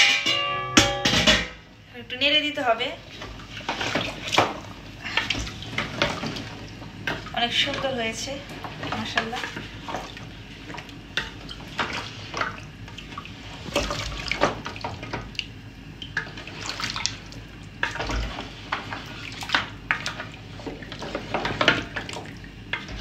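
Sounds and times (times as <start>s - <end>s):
stew sloshing: 3.1s - 23.0s.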